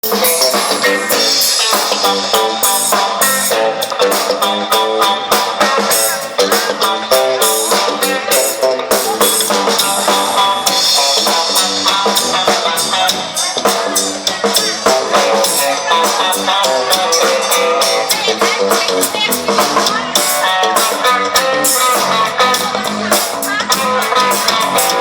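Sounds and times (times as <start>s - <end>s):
band playing with guitars: 0.0s - 25.0s
drum kit beat: 0.0s - 25.0s.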